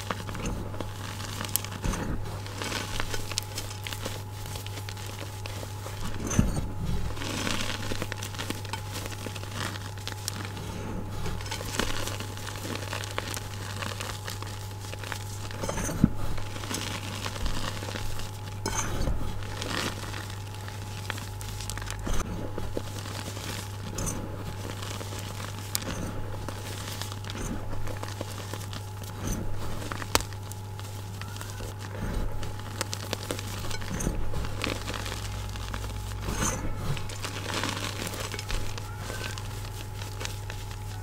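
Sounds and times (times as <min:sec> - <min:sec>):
hands crunching powdery chalk: 0:00.0 - 0:41.0.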